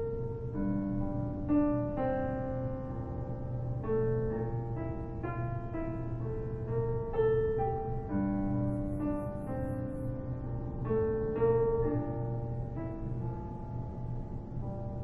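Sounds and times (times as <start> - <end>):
slow piano melody: 0.0 - 15.0
steady low hum: 0.0 - 15.0.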